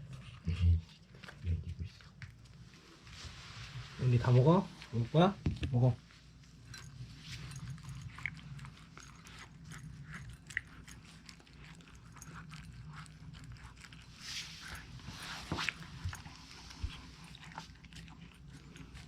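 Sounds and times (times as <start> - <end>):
dog chewing and crunching fish: 0.0 - 3.0, 6.4 - 19.0.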